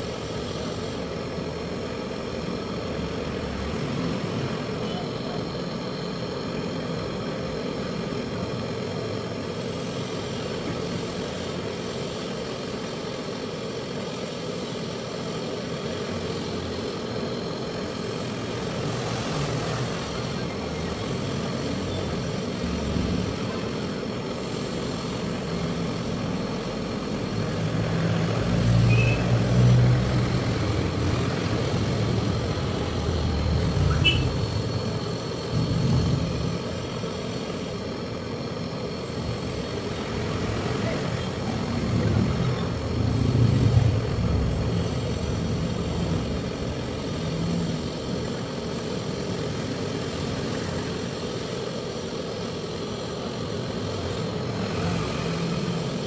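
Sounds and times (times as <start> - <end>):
torch flame hissing: 0.0 - 56.0.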